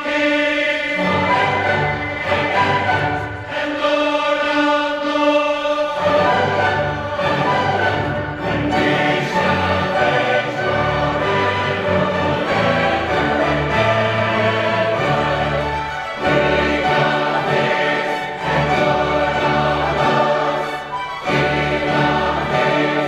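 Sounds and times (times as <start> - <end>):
mixed choir singing: 0.0 - 23.0.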